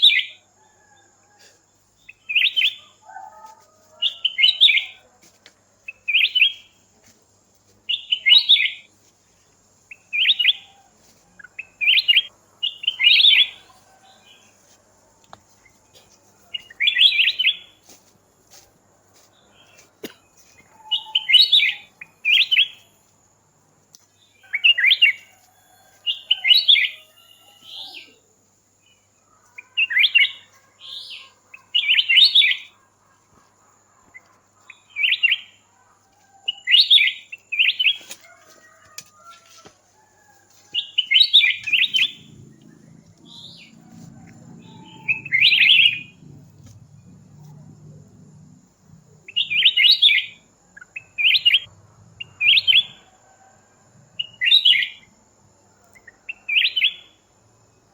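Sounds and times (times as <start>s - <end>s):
songbird chirping: 0.0s - 57.9s.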